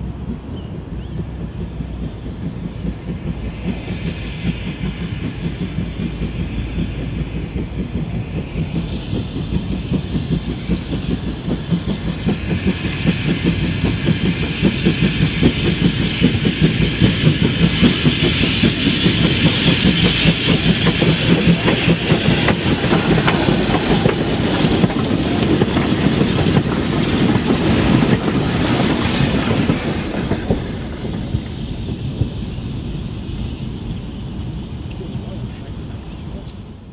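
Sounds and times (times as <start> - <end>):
wheels clicking over rail joints: 0.0 - 31.6
train passing: 0.0 - 36.9.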